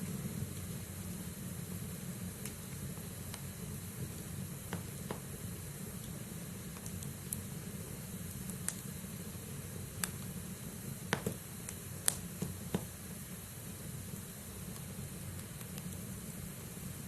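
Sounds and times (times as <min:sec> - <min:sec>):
burning wood crackling and popping: 0:00.0 - 0:17.0
low rumble of flame: 0:00.0 - 0:17.0.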